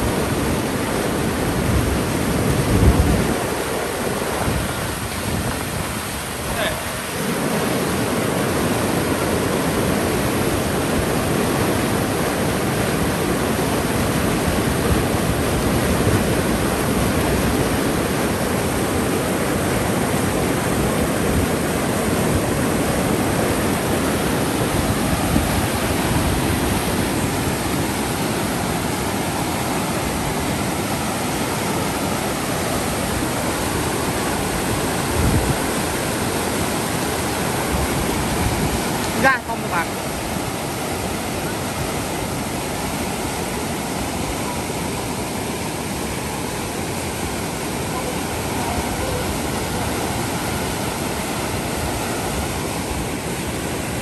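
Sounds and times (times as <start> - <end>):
rushing floodwater: 0.0 - 54.0.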